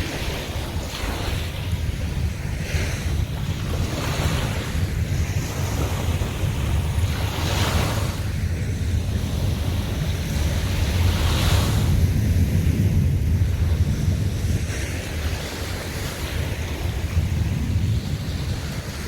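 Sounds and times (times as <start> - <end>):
sea waves breaking: 0.0 - 19.0
wind rumbling on microphone: 0.0 - 19.0.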